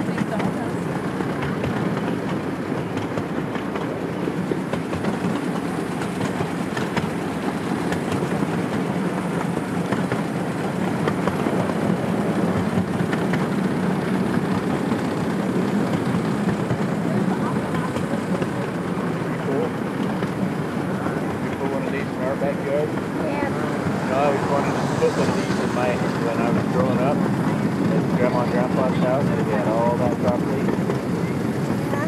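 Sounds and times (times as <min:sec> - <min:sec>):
miniature train rumbling: 0:00.0 - 0:32.0
wheels clicking on track: 0:00.0 - 0:32.0.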